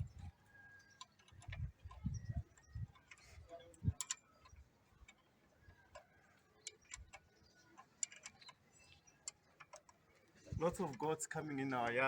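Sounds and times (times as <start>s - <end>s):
faint irregular clicks: 0.0s - 12.0s.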